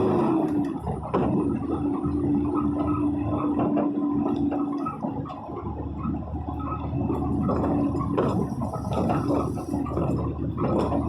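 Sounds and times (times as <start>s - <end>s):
heavy rain on vehicle: 0.0s - 11.0s
road and engine noise: 0.0s - 11.0s.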